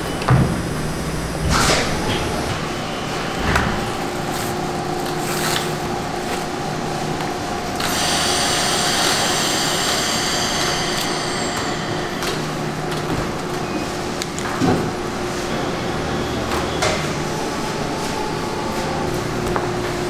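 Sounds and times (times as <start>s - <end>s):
machinery hum: 0.0s - 20.0s
high-pitched machine whine: 2.0s - 20.0s.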